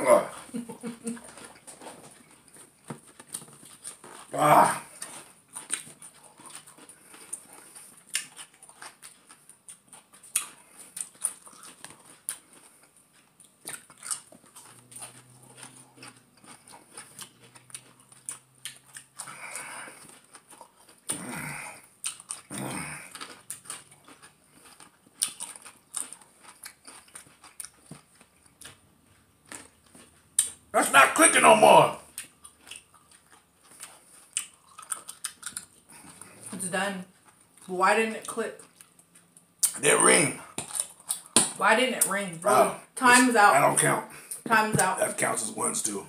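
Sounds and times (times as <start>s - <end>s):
pickles being chewed: 0.2s - 31.4s, 32.0s - 39.8s, 40.4s - 42.7s.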